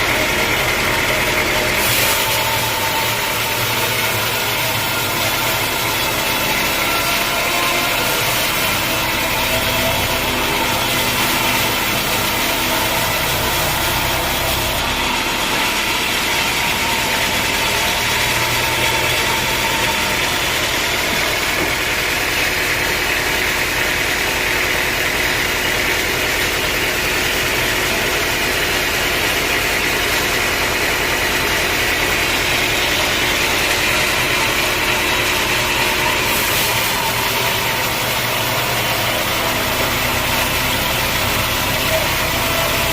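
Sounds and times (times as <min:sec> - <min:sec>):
saw cutting through wood: 0:00.0 - 0:42.9
sawmill motor hum: 0:00.0 - 0:42.9.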